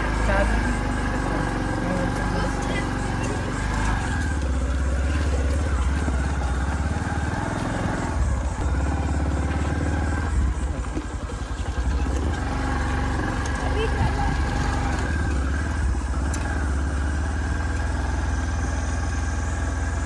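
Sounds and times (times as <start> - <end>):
motorcycle engine at low speed: 0.0 - 20.0.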